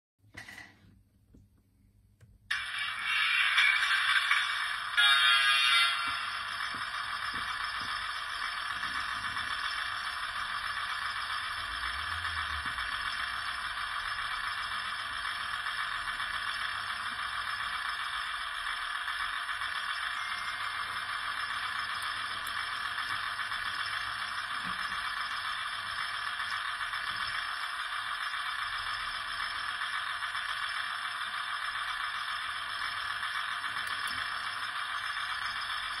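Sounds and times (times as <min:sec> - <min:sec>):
small electric motors whirring: 0:02.5 - 0:36.0.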